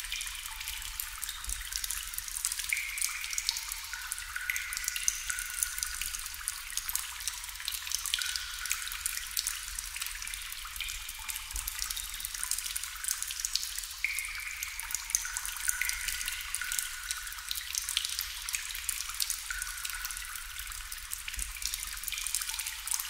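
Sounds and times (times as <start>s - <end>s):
water dripping into water: 0.0s - 23.0s.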